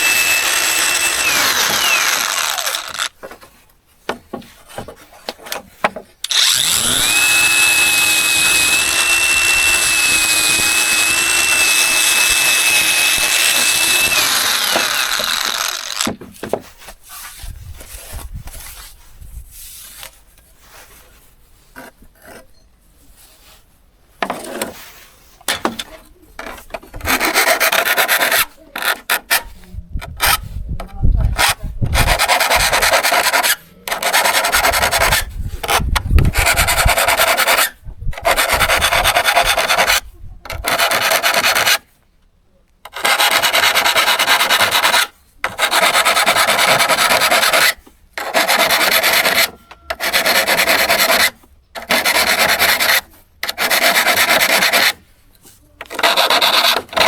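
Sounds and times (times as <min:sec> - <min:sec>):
scraping a saw blade: 0:00.0 - 0:03.6, 0:04.5 - 0:19.0, 0:24.3 - 0:30.6, 0:31.3 - 0:41.9, 0:42.9 - 0:57.0.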